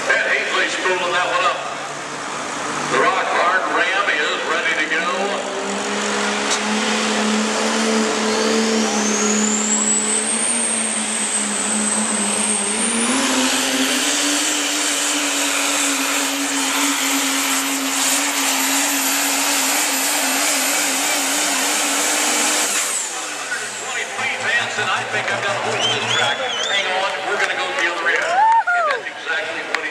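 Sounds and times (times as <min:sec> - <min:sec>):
turbocharger whine: 0:00.0 - 0:27.6
diesel truck engine at full throttle: 0:00.0 - 0:29.9.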